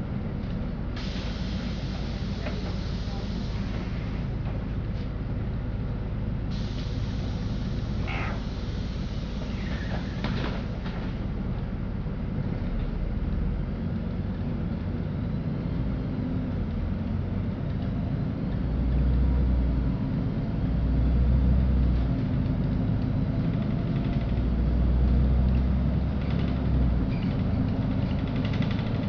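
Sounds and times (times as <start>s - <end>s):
bus diesel engine rumble: 0.0s - 29.0s
road noise: 0.0s - 29.0s.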